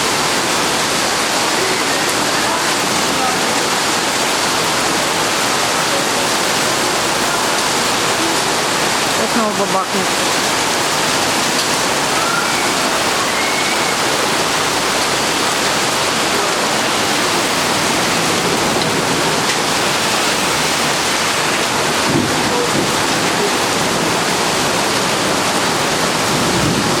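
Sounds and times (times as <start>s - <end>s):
heavy rain pouring: 0.0s - 27.0s
runoff water rushing: 0.0s - 27.0s.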